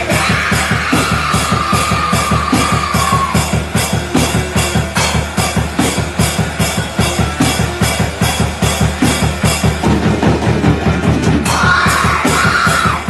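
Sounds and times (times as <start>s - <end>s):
music with fast drum beat: 0.0s - 13.0s.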